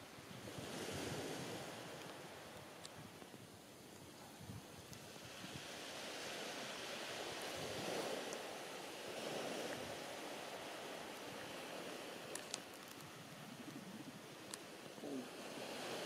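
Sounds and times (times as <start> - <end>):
sea surf washing on shore: 0.0 - 16.0
wind: 0.0 - 16.0.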